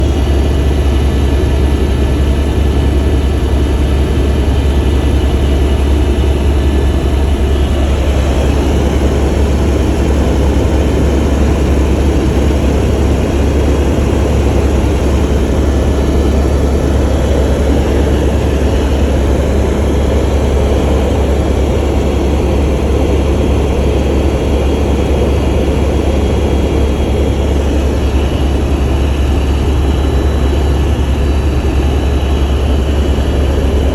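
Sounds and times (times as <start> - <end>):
helicopter drone: 0.0 - 33.9.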